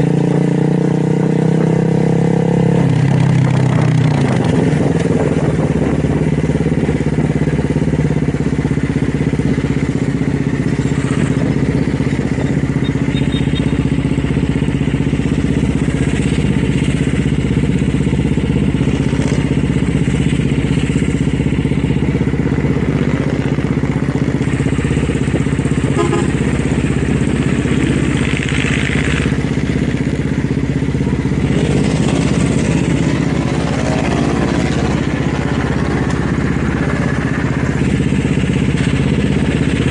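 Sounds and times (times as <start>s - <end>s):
motorcycle engine idling: 2.9s - 39.9s.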